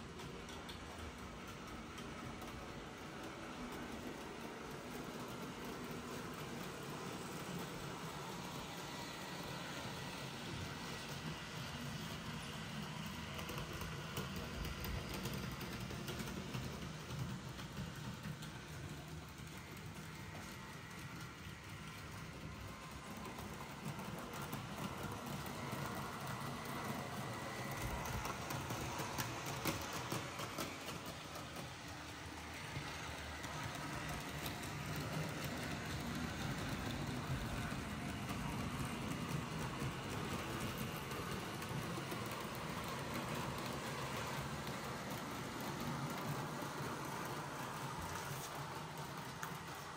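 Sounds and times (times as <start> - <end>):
wheels clicking on rails: 0.0 - 49.9.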